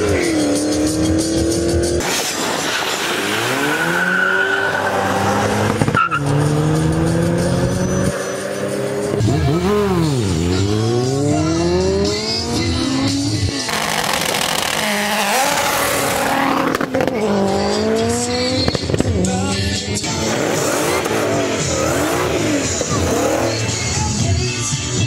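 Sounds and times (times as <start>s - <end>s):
race car engine accelerating: 0.0s - 24.1s
music playing: 0.0s - 25.0s.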